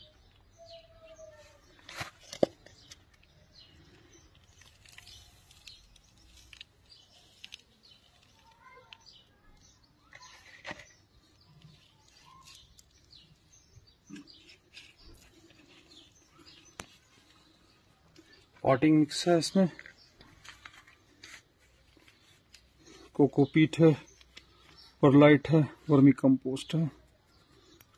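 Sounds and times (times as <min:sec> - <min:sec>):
faint bird chirps: 0:00.0 - 0:25.1
soft taps and rustles of potting mix: 0:00.0 - 0:27.9.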